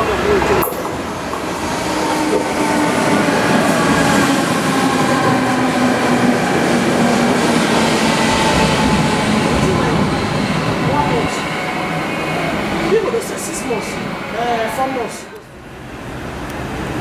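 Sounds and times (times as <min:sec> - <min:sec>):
locomotive passing with hum: 0:00.0 - 0:17.0.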